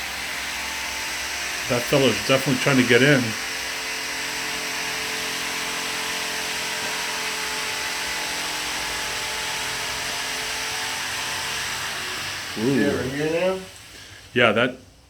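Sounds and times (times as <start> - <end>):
steady motor drone: 0.0 - 13.9.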